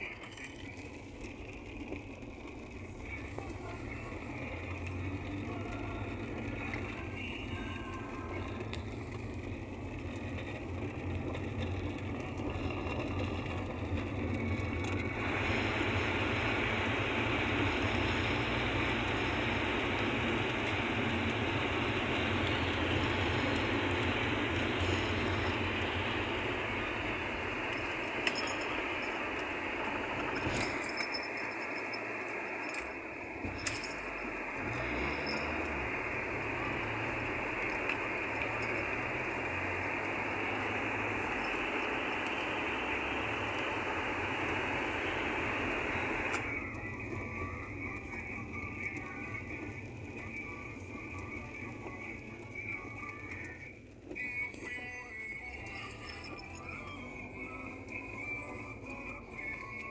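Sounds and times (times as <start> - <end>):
car engine and road hum: 0.0 - 59.9.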